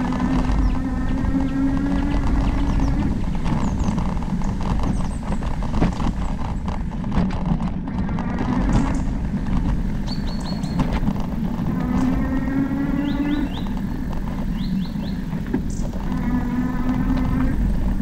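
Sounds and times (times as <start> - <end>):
bike clicks and knocks: 0.0 - 18.0
tyre noise on dirt: 0.0 - 18.0
wind on microphone: 0.0 - 18.0.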